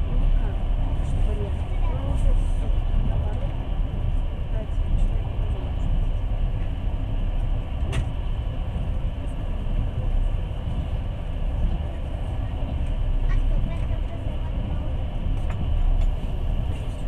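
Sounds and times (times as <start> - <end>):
train rumble from inside: 0.0 - 17.0.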